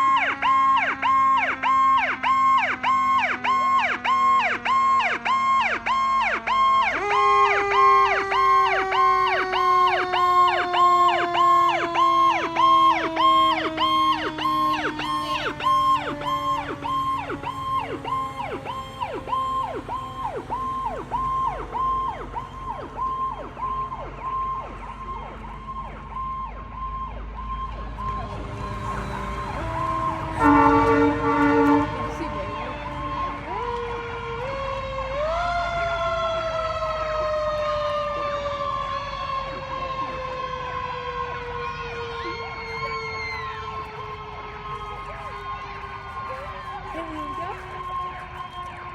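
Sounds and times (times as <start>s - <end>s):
fire truck siren yelping: 0.0s - 48.9s
steady siren tone: 0.0s - 48.9s.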